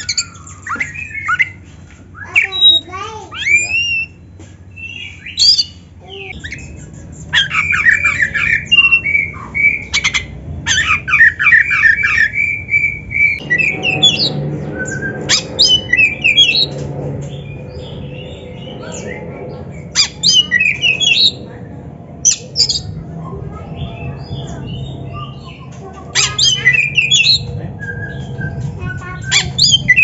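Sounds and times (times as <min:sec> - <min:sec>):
bird singing: 0:00.0 - 0:30.0.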